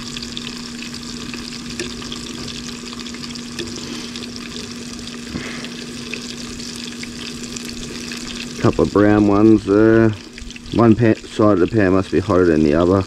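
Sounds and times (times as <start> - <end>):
fish frying in oil: 0.0 - 13.0.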